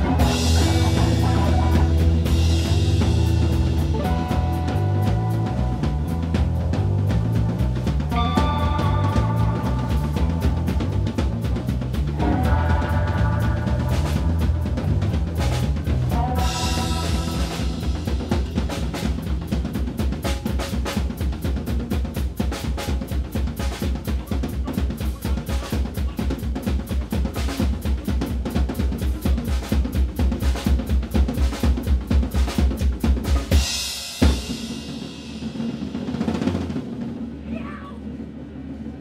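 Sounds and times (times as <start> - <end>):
drum kit pounding: 0.0 - 39.0.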